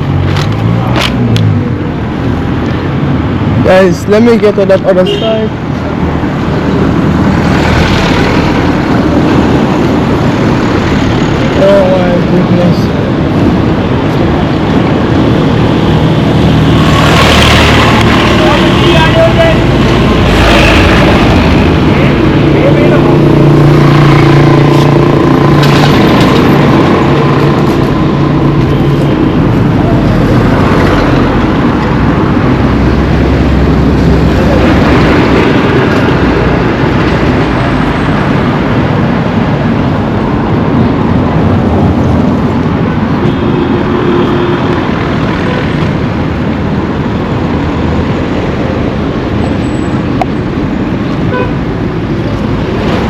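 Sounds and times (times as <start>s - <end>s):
road traffic passing: 0.0s - 53.0s
steady engine hum: 5.5s - 53.0s.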